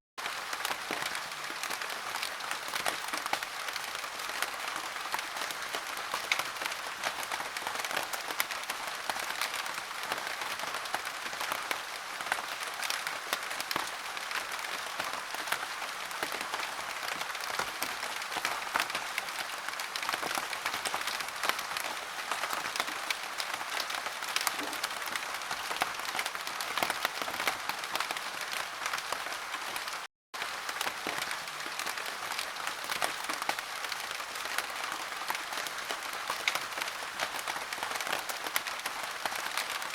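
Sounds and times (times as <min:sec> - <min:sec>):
heavy rain: 0:00.2 - 0:39.9.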